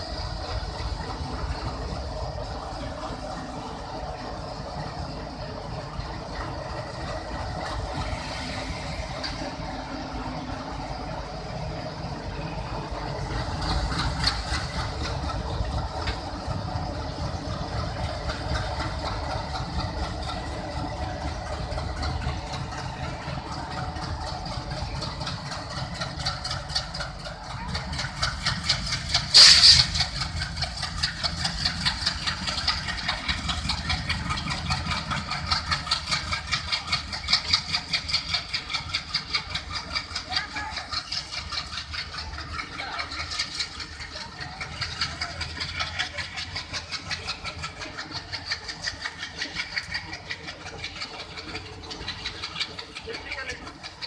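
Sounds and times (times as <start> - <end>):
diesel locomotive engines running: 0.0 - 54.0.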